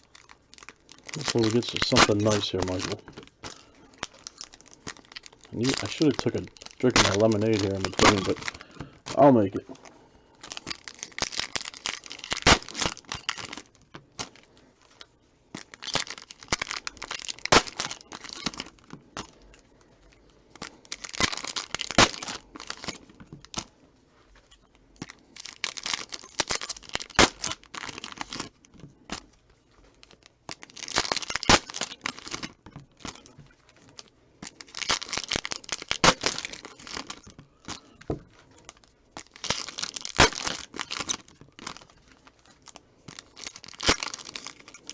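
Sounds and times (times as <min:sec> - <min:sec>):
wrappers tearing and crinkling: 0:00.0 - 0:23.8, 0:24.4 - 0:44.9.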